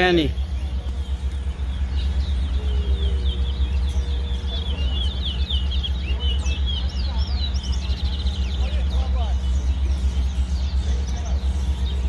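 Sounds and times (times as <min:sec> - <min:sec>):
low rumble: 0:00.0 - 0:12.0
songbirds twittering: 0:00.0 - 0:12.0.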